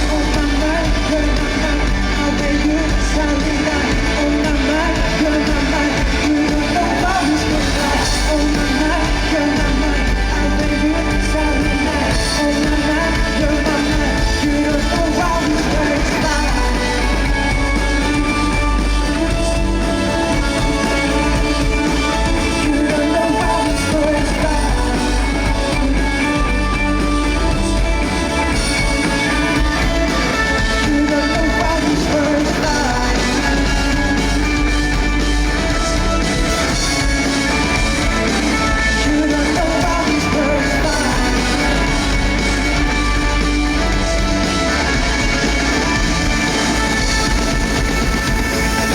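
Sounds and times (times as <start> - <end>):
electric guitar: 0.0 - 48.9
live pop-rock band: 0.0 - 48.9
person singing: 0.0 - 48.9.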